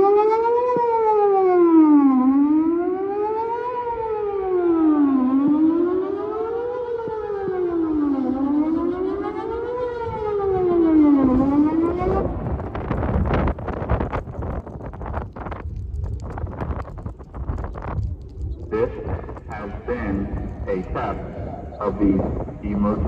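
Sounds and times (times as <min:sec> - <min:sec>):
warning siren wailing: 0:00.0 - 0:15.6, 0:17.8 - 0:23.0.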